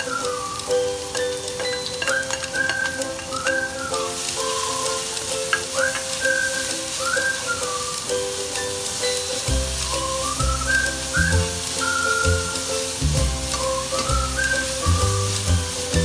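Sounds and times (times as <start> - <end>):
background music with whistle melody: 0.0 - 16.0
onion sizzling in a wok: 0.0 - 16.0
spatula scraping and tapping pan: 0.6 - 16.0.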